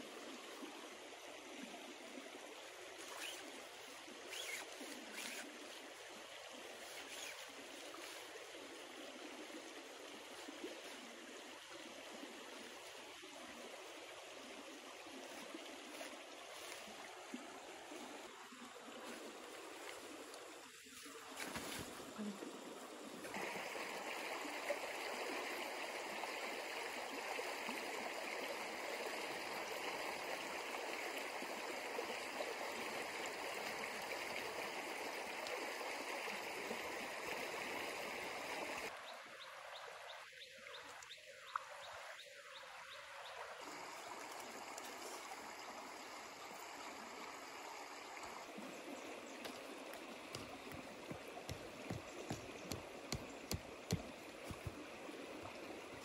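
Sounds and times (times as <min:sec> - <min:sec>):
flowing stream: 0:00.0 - 0:56.0.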